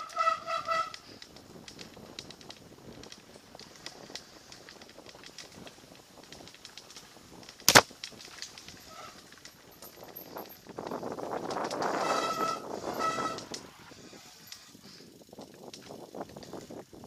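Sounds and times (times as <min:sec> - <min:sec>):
tyres rattling over rough ground: 0:00.0 - 0:17.0.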